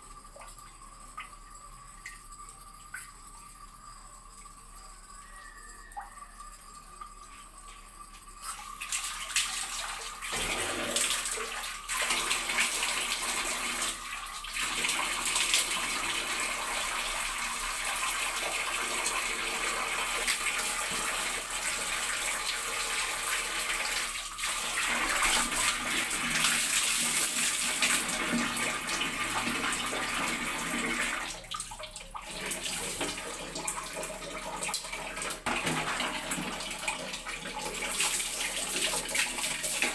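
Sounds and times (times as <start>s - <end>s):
water running and splashing: 5.2s - 39.9s.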